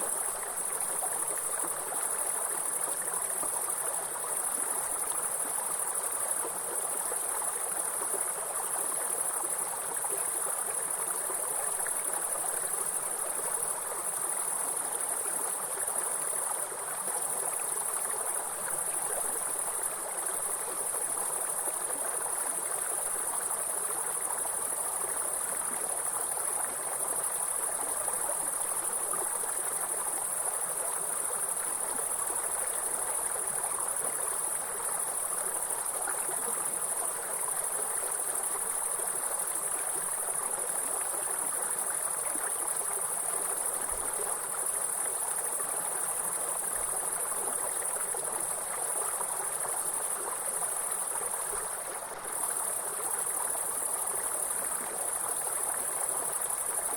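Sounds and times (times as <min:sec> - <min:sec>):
high-pitched insect chorus: 0:00.0 - 0:56.9
stream water flowing: 0:00.0 - 0:56.9.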